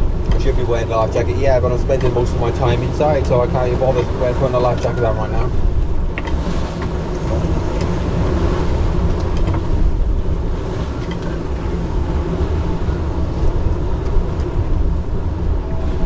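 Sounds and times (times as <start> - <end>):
sailing yacht rushing through rough seas: 0.0 - 16.0.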